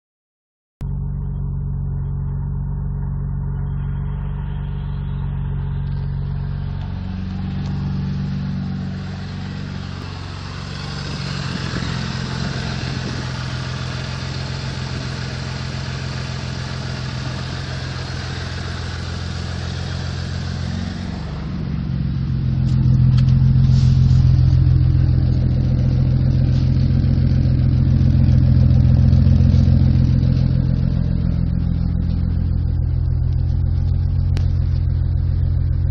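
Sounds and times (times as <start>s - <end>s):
car engine running: 0.8s - 35.9s.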